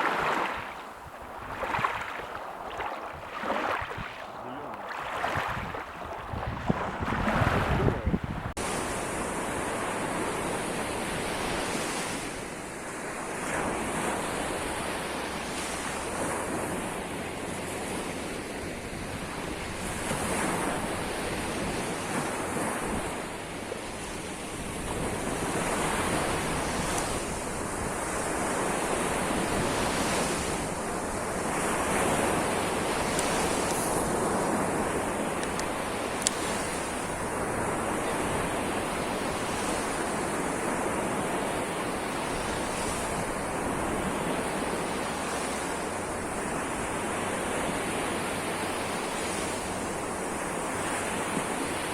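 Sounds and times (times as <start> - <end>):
wind on microphone: 0.0 - 48.3
waves breaking: 0.0 - 51.9.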